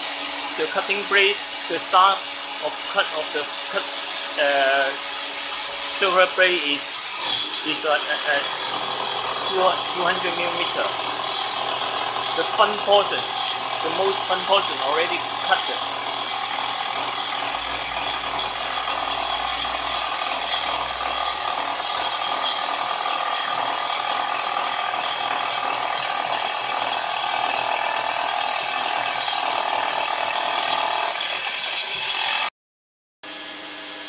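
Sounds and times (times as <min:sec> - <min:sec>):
angle grinder cutting metal: 0:00.0 - 0:32.5.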